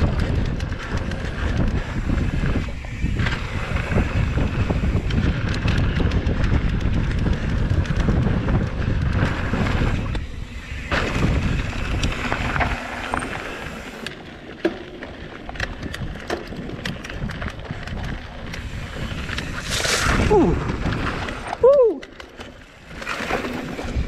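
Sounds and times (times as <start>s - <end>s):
wind buffeting microphone: 0.0s - 14.4s, 15.1s - 24.0s
bike clicks and rattles: 0.0s - 24.0s
tyres rolling over dirt trail: 0.0s - 24.0s.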